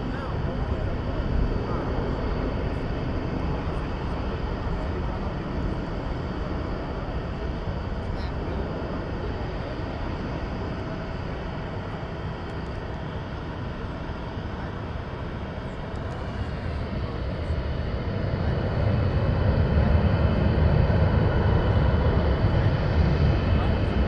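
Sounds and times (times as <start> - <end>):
faint whine: 0.0 - 24.0
jet engines rumbling: 0.0 - 24.0.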